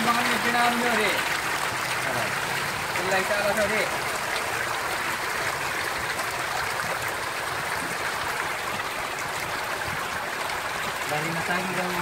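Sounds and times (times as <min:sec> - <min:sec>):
water splashing and churning: 0:00.0 - 0:12.0.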